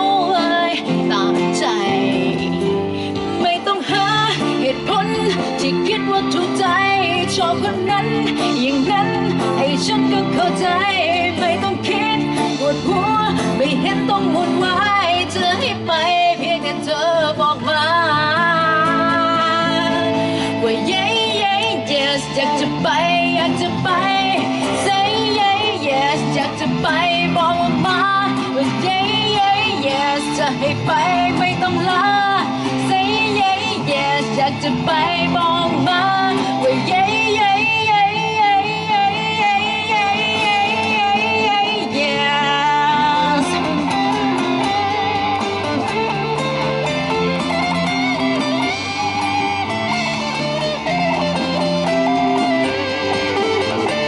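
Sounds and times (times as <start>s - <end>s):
electric guitar: 0.0s - 54.0s
woman singing pop song: 0.0s - 54.0s.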